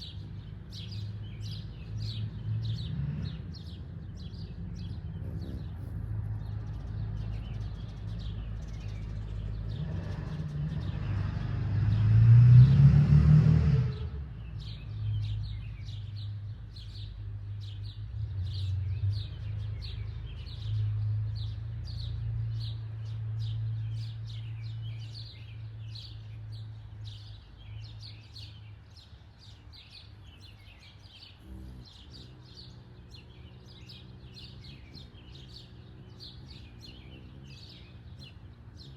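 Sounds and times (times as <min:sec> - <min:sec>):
small birds chirping: 0:00.0 - 0:12.3, 0:14.0 - 0:38.9
vehicle passing: 0:00.0 - 0:16.8, 0:17.4 - 0:38.9.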